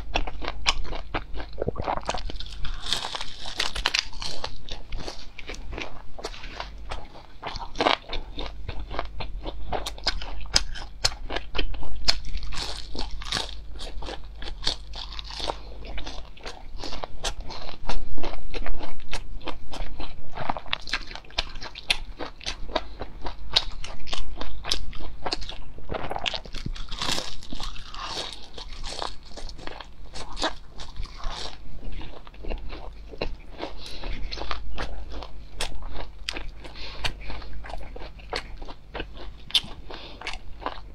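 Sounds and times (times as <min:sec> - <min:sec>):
crunching fried food: 0:00.0 - 0:40.9.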